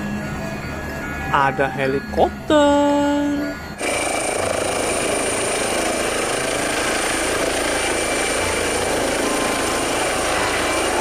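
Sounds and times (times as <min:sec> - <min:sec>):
helicopter rotor and engine: 0:00.0 - 0:02.8, 0:03.4 - 0:11.0
high whine: 0:00.0 - 0:11.0.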